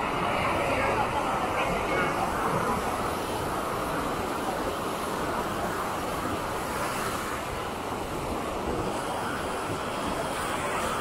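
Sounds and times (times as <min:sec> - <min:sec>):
ocean waves breaking on beach: 0:00.0 - 0:11.0
wind buffeting microphone: 0:00.0 - 0:11.0.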